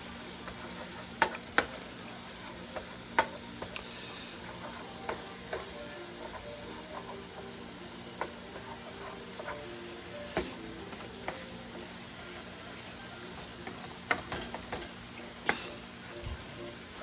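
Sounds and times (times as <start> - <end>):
meat sizzling in a pan: 0.0 - 17.0
spatula scraping a pan: 0.3 - 14.9.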